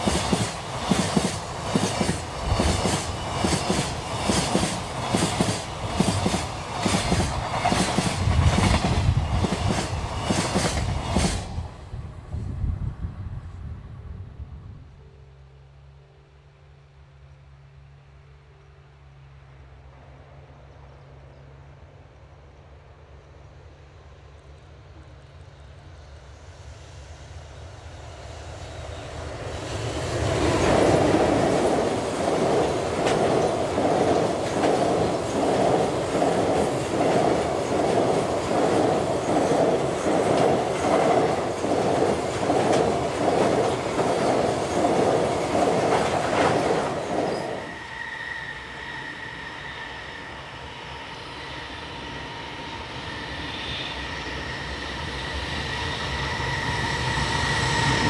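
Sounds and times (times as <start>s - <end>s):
freight train passing: 0.0s - 58.0s
locomotive high whine: 10.8s - 58.0s.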